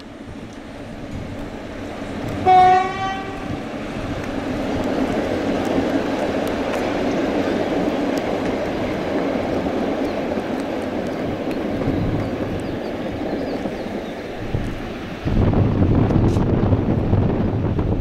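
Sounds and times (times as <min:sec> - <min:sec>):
coaches rolling on rails: 0:00.0 - 0:18.0
diesel locomotive engine running: 0:00.0 - 0:18.0.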